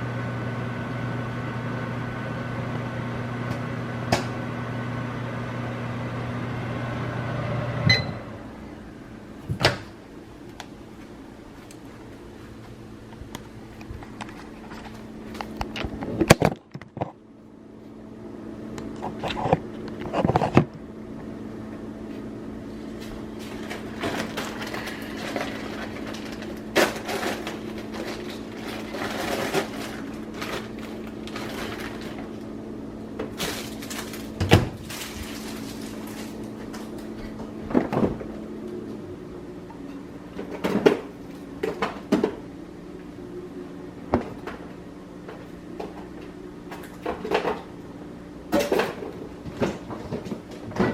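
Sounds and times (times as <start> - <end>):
microwave oven humming: 0.0 - 50.9.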